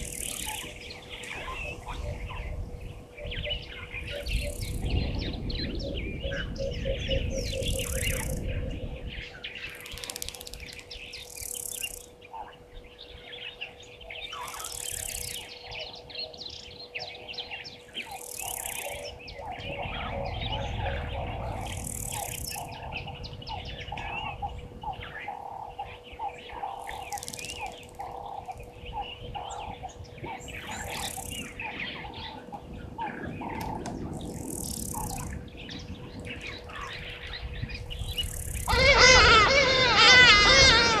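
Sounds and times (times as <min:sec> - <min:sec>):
wild birds chirping: 0:00.0 - 0:41.0.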